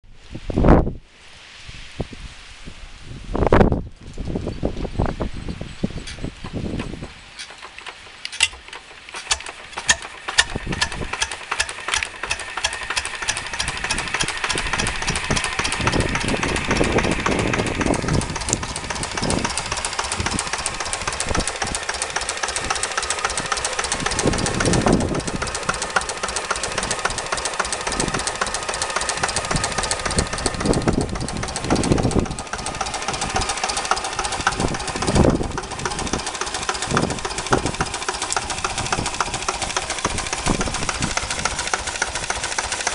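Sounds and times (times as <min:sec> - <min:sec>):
stationary engine running: 0:06.4 - 0:42.9.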